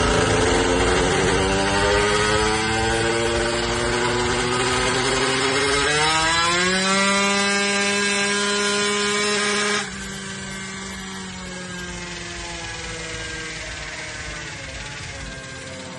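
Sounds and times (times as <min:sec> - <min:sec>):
two-stroke engine running hard: 0:00.0 - 0:15.9.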